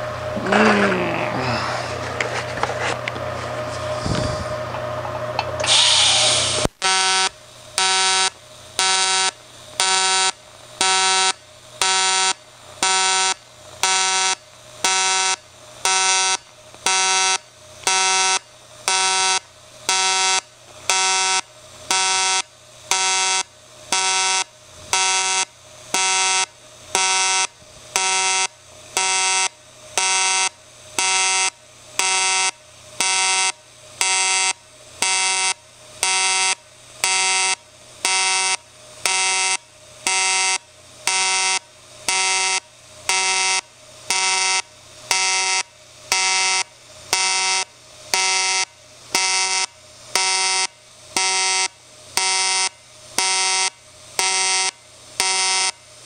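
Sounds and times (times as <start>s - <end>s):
pulsing welding arc buzz: 0.0s - 56.0s.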